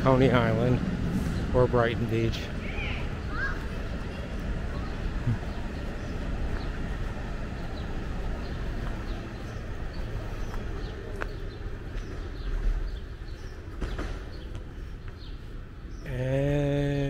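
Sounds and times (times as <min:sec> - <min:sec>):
subway train rumbling on tracks: 0:00.0 - 0:17.0
small birds chirping: 0:00.1 - 0:17.0.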